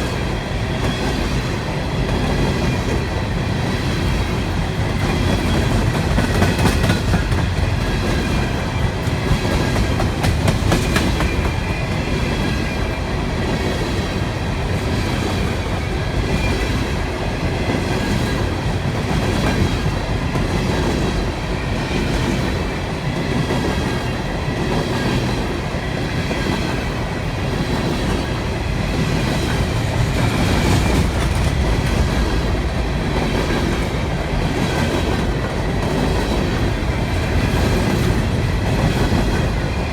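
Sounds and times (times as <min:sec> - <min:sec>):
train rumble: 0:00.0 - 0:39.9
train wheels clicking on rails: 0:00.0 - 0:39.9.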